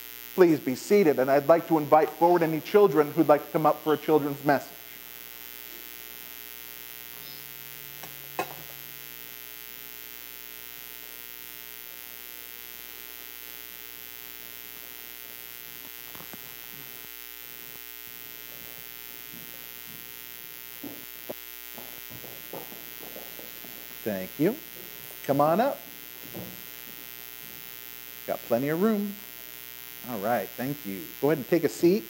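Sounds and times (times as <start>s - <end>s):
electrical mains hum with hiss: 0.0s - 32.0s.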